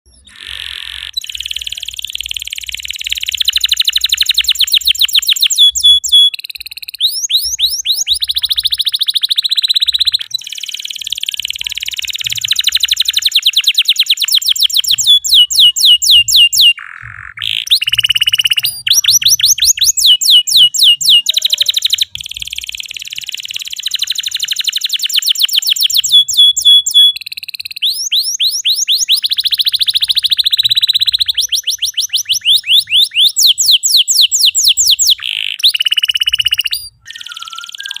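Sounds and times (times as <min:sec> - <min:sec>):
canary singing trills: 0:00.1 - 0:38.0.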